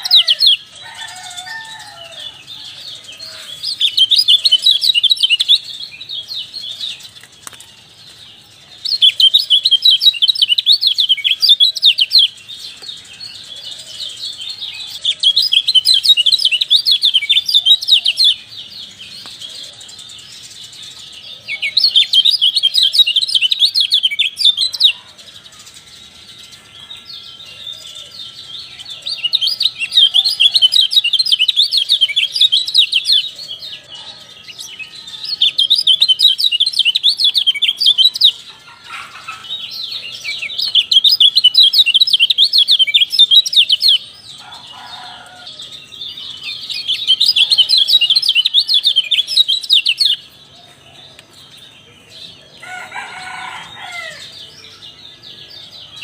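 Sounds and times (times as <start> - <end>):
bird twittering chatter: 0.0 - 56.0.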